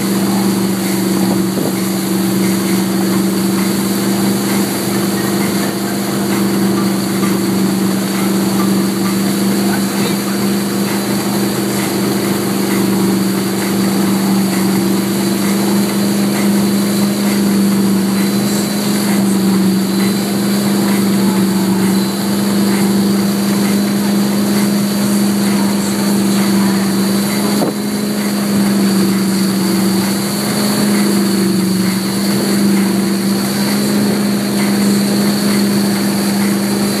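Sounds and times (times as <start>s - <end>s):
boat engine running: 0.0s - 37.0s
churning wake rushing: 0.0s - 37.0s.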